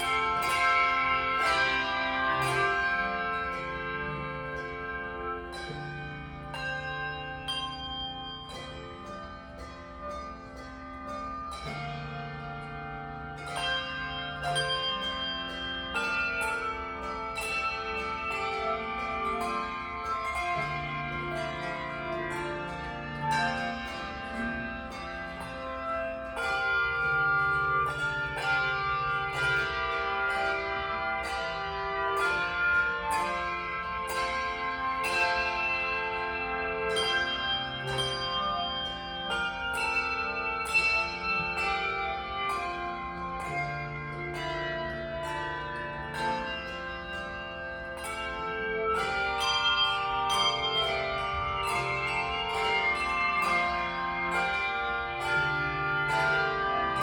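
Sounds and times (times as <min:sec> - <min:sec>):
deep bass bells held: 0:00.0 - 0:57.0
handbell choir playing: 0:00.0 - 0:57.0.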